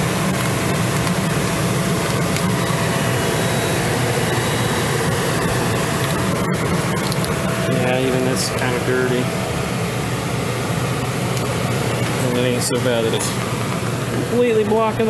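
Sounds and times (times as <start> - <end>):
blower fan rushing air: 0.0 - 15.0.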